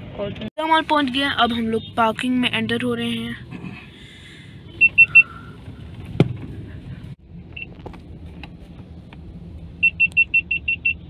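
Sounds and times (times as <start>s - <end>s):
car rumbling from inside: 0.0s - 11.0s.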